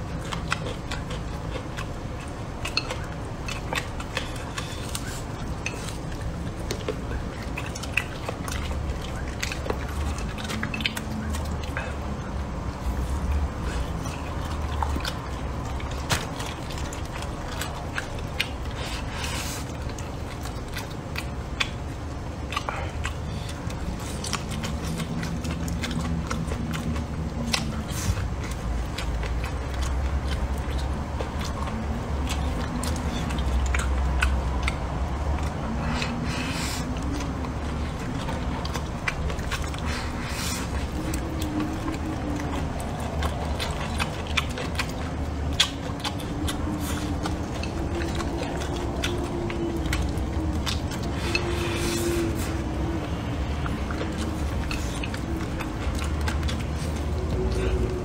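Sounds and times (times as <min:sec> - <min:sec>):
person chewing and biting food: 0:00.0 - 0:58.0
steady low hum: 0:00.0 - 0:58.0
wet mouth clicks and smacks: 0:00.0 - 0:58.0.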